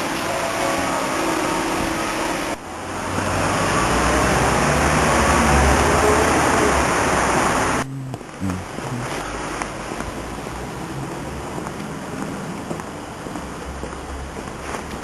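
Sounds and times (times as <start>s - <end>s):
road traffic hiss: 0.0s - 15.0s
vehicle rumble: 1.5s - 15.0s.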